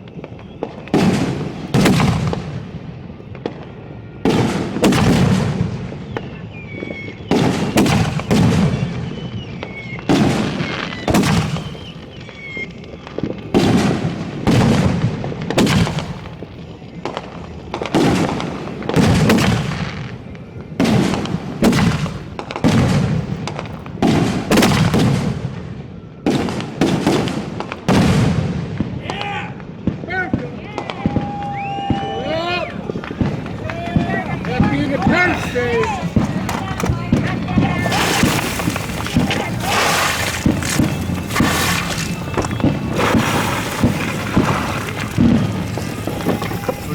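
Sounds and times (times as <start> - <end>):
falling firework whistles: 0.0 - 2.9, 3.5 - 28.4, 30.8 - 46.9
firework shells booming: 0.0 - 29.0, 29.6 - 46.9.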